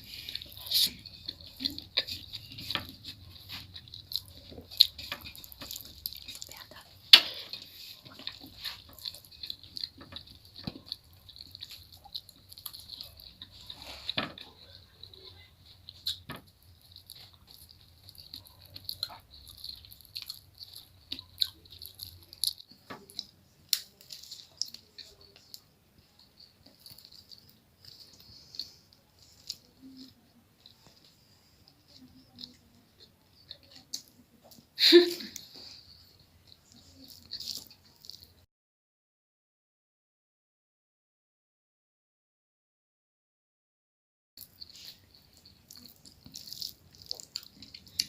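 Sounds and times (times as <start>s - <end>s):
chewing and mouth clicks: 0.0s - 38.5s, 44.4s - 48.0s.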